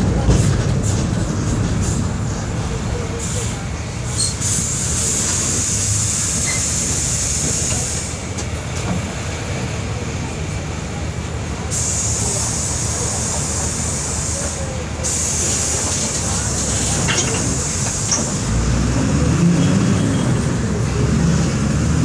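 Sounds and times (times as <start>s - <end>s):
bus diesel engine rumbling: 0.0s - 22.0s.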